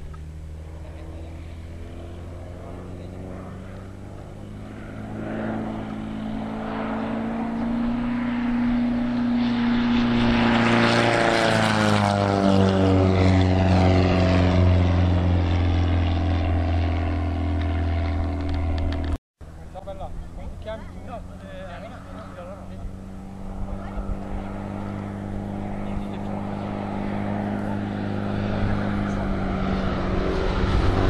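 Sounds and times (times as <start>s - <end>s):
propeller aircraft engine passing: 0.0s - 31.0s.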